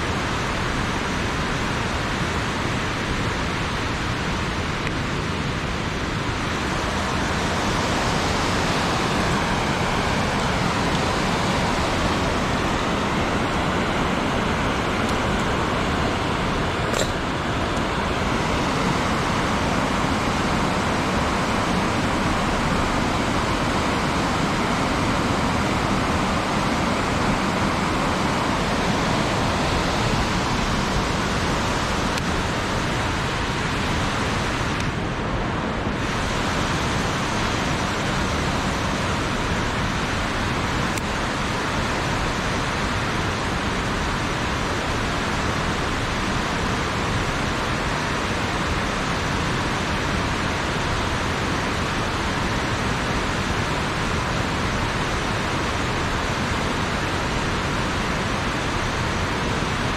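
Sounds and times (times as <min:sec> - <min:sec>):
water rushing over a weir: 0:00.0 - 0:59.9.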